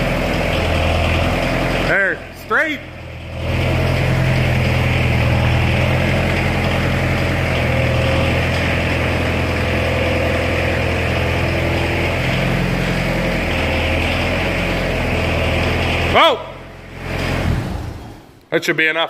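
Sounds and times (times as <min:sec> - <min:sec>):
sprayer engine running: 0:00.0 - 0:18.3.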